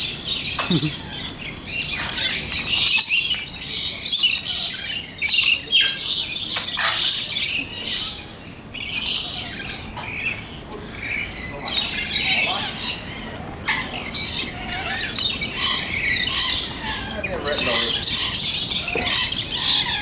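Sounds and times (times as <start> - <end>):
parrots chattering and squawking: 0.0 - 20.0.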